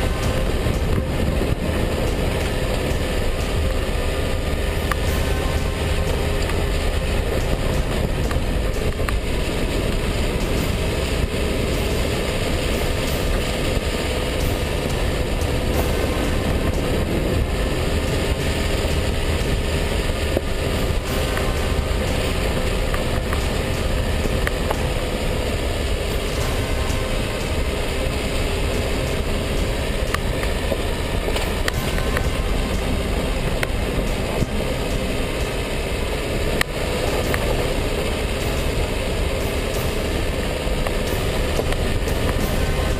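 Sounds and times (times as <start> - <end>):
diesel engine running: 0.0 - 42.9
road noise: 0.0 - 42.9.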